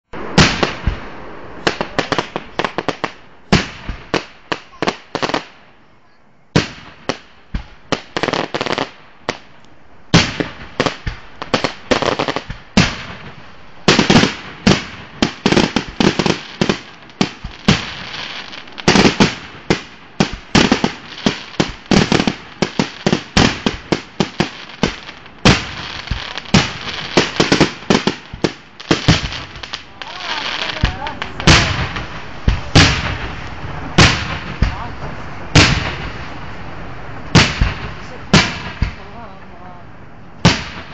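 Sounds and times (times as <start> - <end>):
fireworks bursting: 0.1 - 5.9, 6.5 - 40.9.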